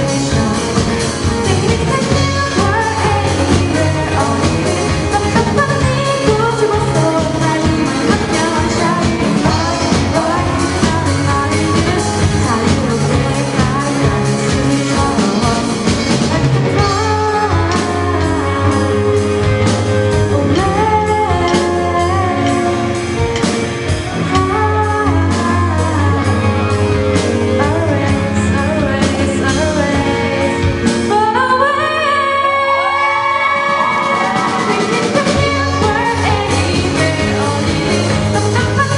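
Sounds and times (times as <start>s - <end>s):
band playing: 0.0s - 38.9s
person singing: 0.0s - 38.9s.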